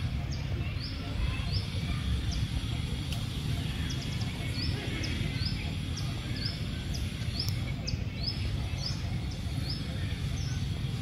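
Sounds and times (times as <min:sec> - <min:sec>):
small bird chirping: 0:00.0 - 0:11.0
steady low rumble: 0:00.0 - 0:11.0.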